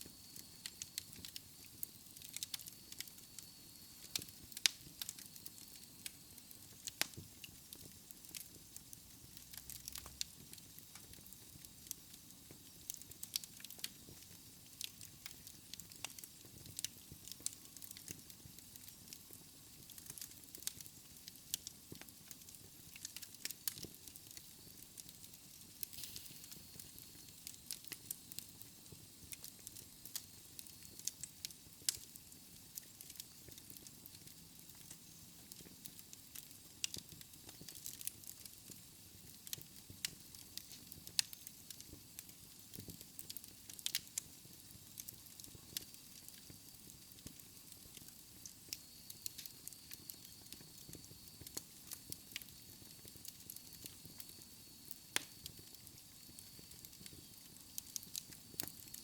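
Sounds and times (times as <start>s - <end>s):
fire crackling and popping: 0.0s - 59.0s
soft steady hiss: 0.0s - 59.0s.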